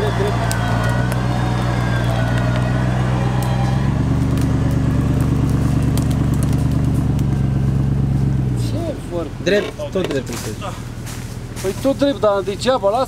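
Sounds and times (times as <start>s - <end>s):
vehicle engine running at low revs: 0.0s - 13.0s.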